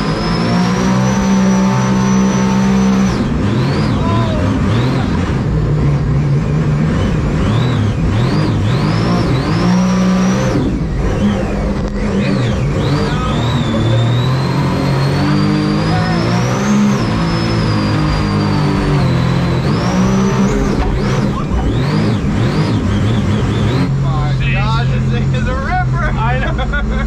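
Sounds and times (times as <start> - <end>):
jet boat engine whine: 0.0 - 26.9.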